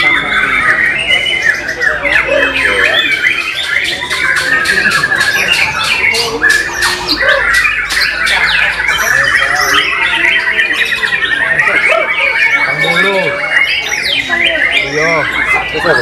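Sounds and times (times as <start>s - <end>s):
chorus of songbirds: 0.0s - 16.0s
songbird singing loudly: 0.0s - 16.0s.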